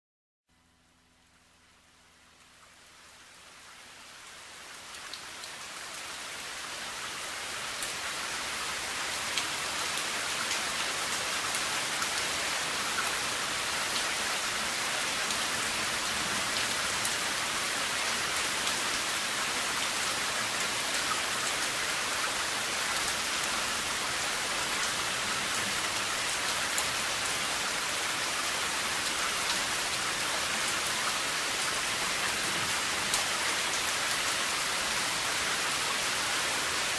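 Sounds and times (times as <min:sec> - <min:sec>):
steady rain: 0:00.5 - 0:36.9.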